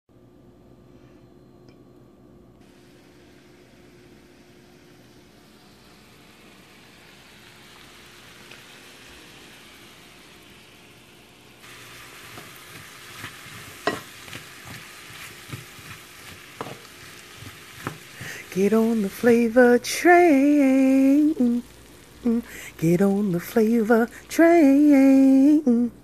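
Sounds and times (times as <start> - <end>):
onions and mushrooms sizzling: 2.6 - 25.6.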